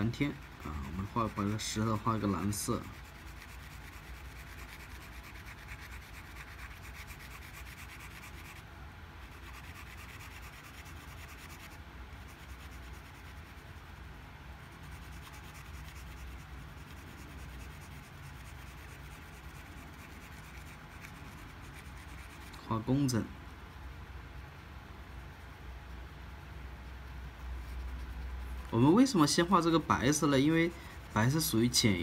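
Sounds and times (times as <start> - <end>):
marker scrubbing on rough stone: 0.0 - 8.6, 9.2 - 14.0, 14.6 - 23.3, 26.8 - 32.0.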